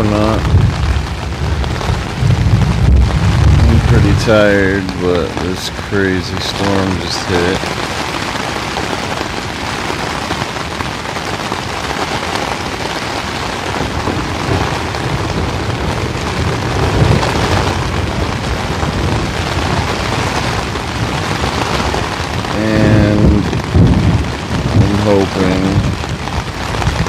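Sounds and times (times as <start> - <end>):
heavy rain: 0.0 - 27.0
thunder rumbling: 0.0 - 27.0.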